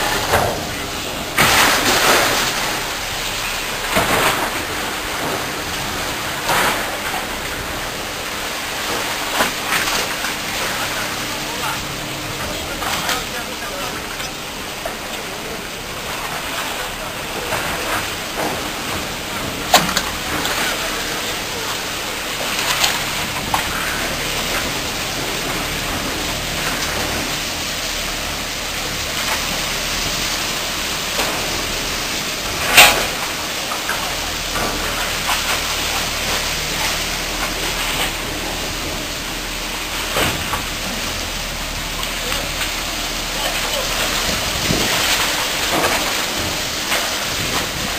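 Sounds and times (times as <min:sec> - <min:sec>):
rushing water: 0:00.0 - 0:47.9
wind: 0:00.0 - 0:47.9.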